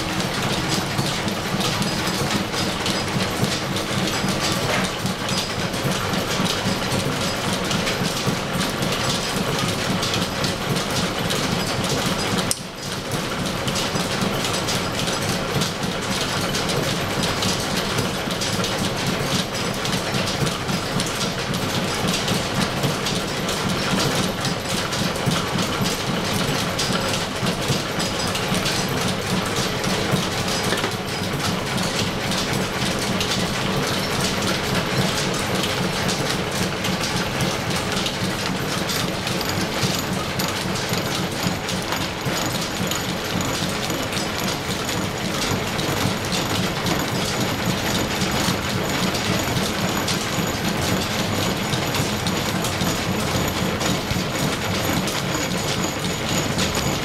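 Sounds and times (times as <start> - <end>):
milling machine clattering: 0.0 - 57.0.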